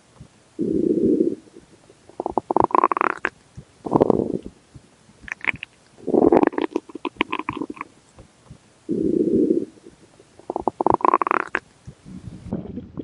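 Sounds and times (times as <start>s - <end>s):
stomach growling: 0.6s - 4.5s, 5.2s - 7.9s, 8.9s - 13.0s.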